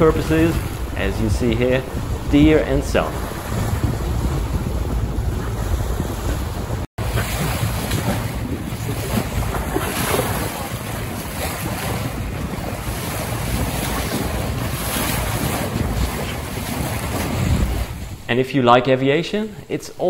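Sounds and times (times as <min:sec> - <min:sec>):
water rushing along boat: 0:00.0 - 0:18.3
wind buffeting microphone: 0:00.0 - 0:18.4.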